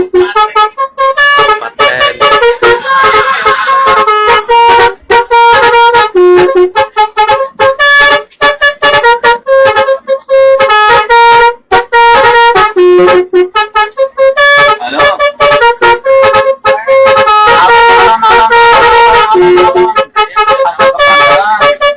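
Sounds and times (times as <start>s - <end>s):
bus musical horn melody: 0.0s - 21.9s.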